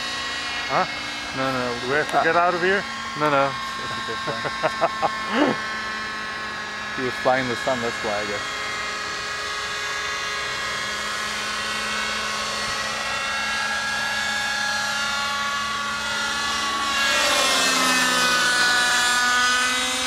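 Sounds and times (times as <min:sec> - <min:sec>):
model helicopter engine whine: 0:00.0 - 0:20.0.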